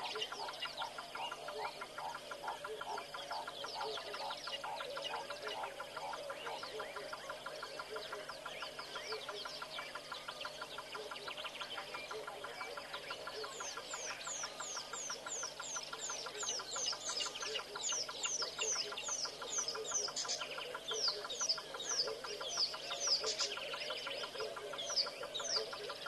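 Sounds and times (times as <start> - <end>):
pulsing bird chorus: 0.0 - 26.0.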